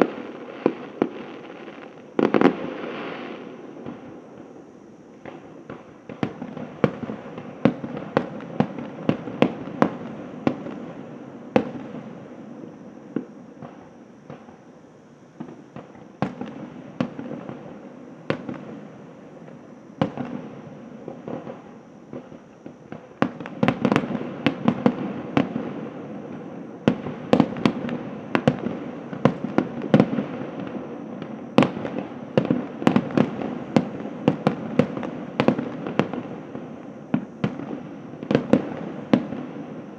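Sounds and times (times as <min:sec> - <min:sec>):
fireworks bursting: 0:00.0 - 0:14.8, 0:15.4 - 0:39.9.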